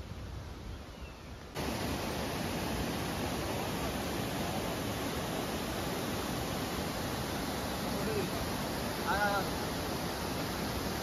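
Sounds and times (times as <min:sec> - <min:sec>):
water rushing over rocks: 0:01.5 - 0:11.0.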